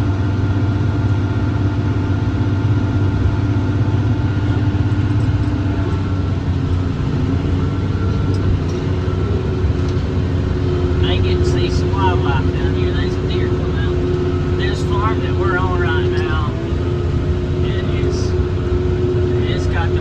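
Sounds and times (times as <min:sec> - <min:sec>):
steady whine: 0:00.0 - 0:20.0
tractor diesel engine running: 0:00.0 - 0:20.0.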